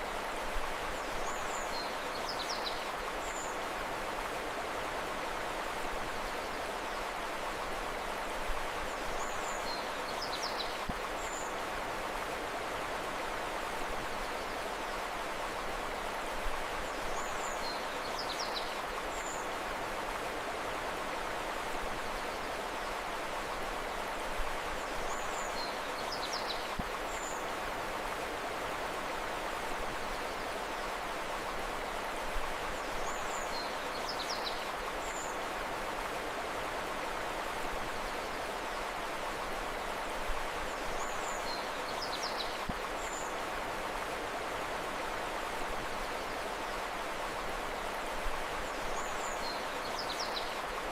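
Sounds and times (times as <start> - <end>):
river flowing: 0.0 - 50.9.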